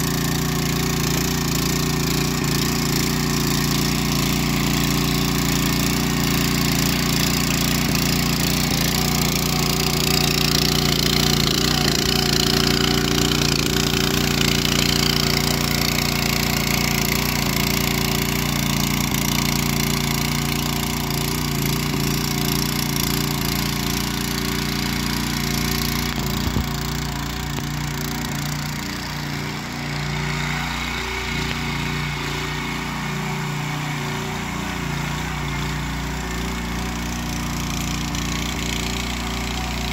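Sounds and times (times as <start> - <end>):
cultivator engine running under load: 0.0 - 39.9
tines churning soil: 0.0 - 39.9.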